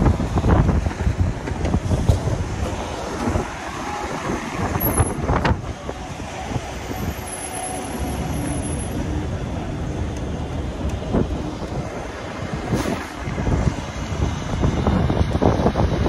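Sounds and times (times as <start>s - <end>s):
wind buffeting microphone: 0.0s - 7.3s, 9.0s - 16.0s
street traffic: 0.0s - 16.0s.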